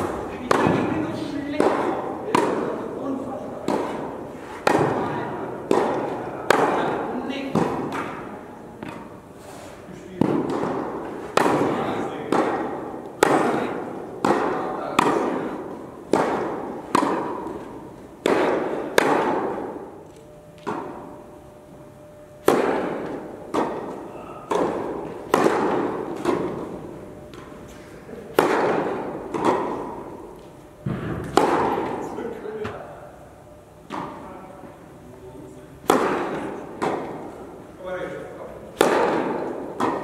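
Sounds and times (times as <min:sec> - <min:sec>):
tennis balls bouncing on court: 0:00.0 - 0:09.2, 0:10.1 - 0:21.2, 0:22.4 - 0:27.6, 0:28.3 - 0:32.9, 0:35.8 - 0:37.6, 0:38.7 - 0:40.0
tennis balls struck by rackets: 0:00.0 - 0:33.2, 0:33.8 - 0:34.8, 0:35.7 - 0:40.0.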